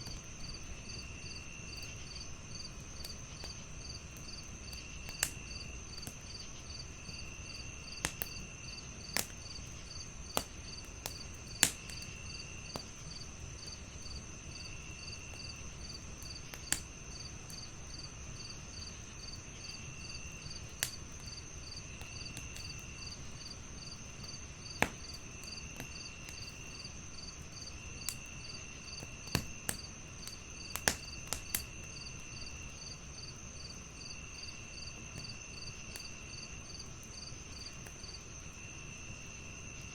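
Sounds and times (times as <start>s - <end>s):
crickets chirping: 0.0s - 39.9s
wood fire crackling: 0.0s - 39.9s.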